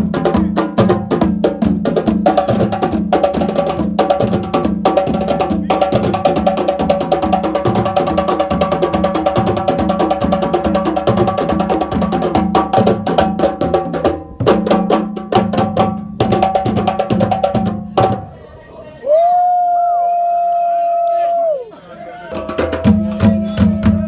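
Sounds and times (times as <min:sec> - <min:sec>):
fast african-style drumming: 0:00.0 - 0:18.4, 0:22.3 - 0:24.0.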